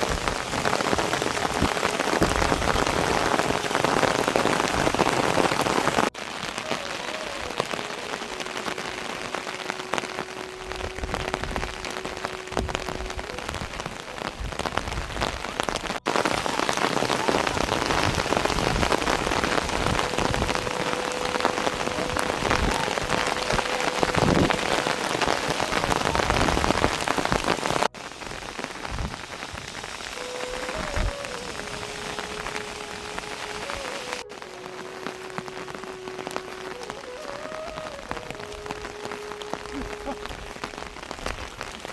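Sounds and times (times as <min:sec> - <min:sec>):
rain pattering on surfaces: 0:00.0 - 0:41.9.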